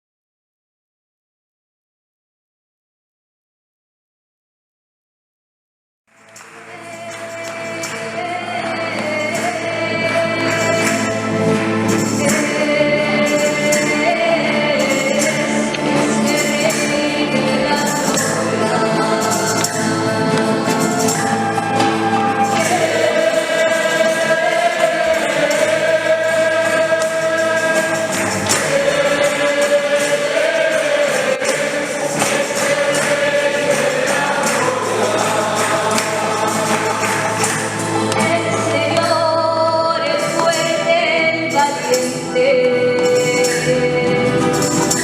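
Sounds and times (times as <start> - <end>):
rhythmic percussion: 6.1 - 45.0
choir singing a hymn: 6.6 - 45.0.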